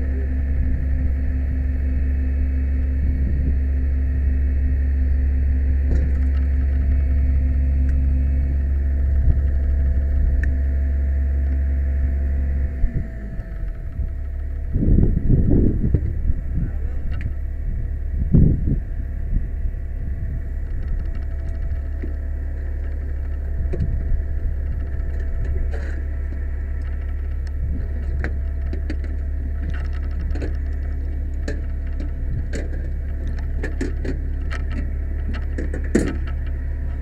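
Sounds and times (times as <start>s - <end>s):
truck engine rumbling: 0.0s - 37.0s.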